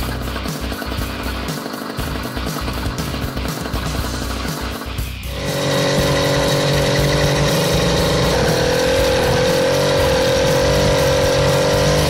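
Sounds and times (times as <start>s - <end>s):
small two-stroke engine running: 0.0s - 12.0s.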